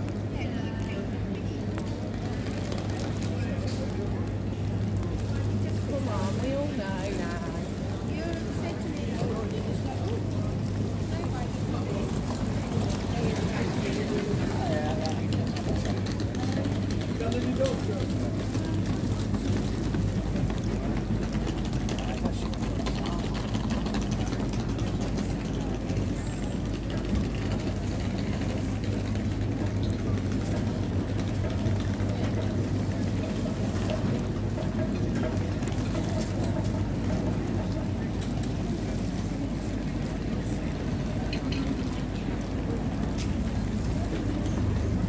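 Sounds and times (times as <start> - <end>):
passers-by talking: 0.0 - 45.0.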